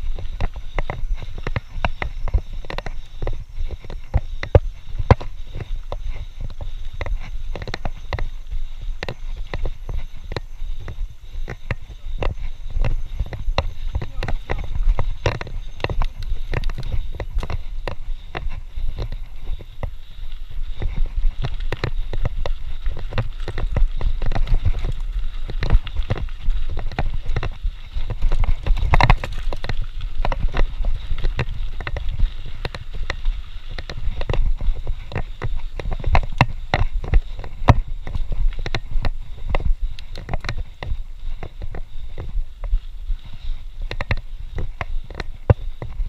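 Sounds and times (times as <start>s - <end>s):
bike rattling and knocking: 0.0s - 46.0s
bike tyres rumbling on dirt: 0.0s - 46.0s.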